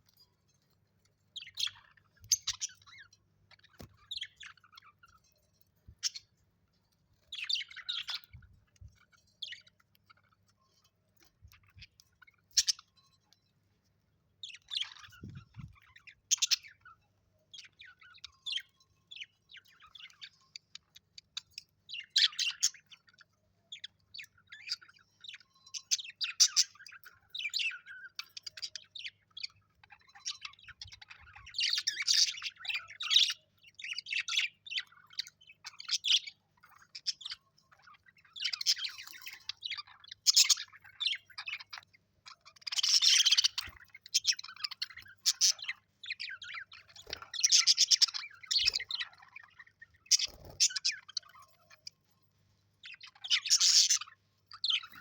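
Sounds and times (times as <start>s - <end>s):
parrots chirping and chattering: 0.0s - 55.0s.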